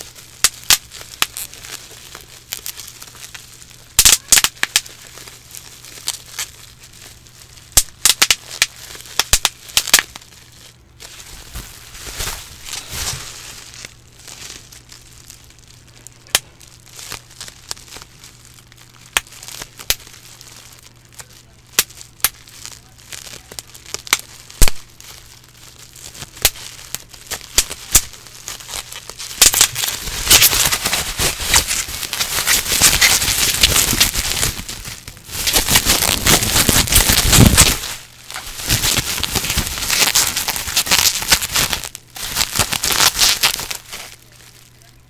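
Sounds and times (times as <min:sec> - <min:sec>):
bubble wrap popping: 0:00.0 - 0:45.0
plastic crinkling: 0:00.0 - 0:45.0.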